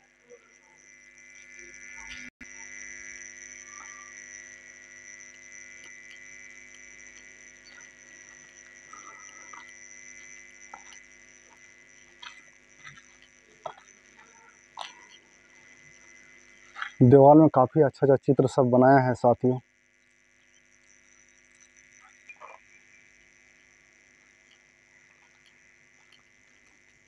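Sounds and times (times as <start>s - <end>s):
droning hum with high whine: 0.0s - 27.0s.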